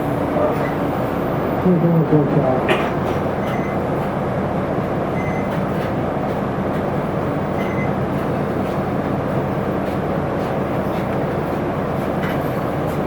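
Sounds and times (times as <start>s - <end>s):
diesel engine drone: 0.0s - 13.0s
road noise: 0.0s - 13.0s.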